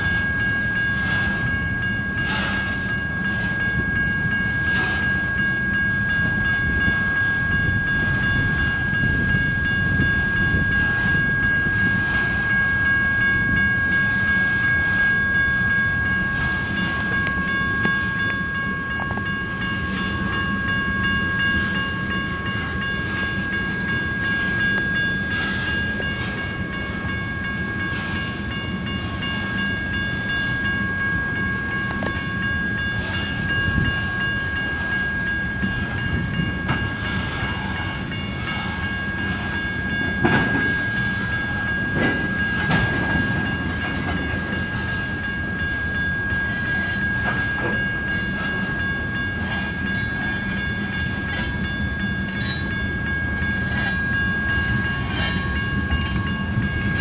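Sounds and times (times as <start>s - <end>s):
crossing bell ringing tone: 0.0s - 57.0s
train wheels rumbling on rails: 0.0s - 57.0s.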